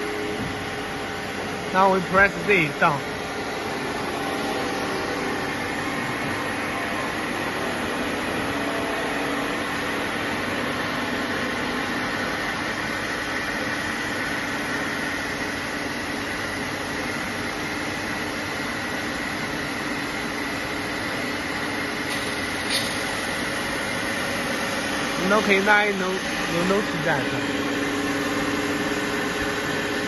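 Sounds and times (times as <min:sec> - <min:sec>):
machine hum and hiss: 0:00.0 - 0:30.0.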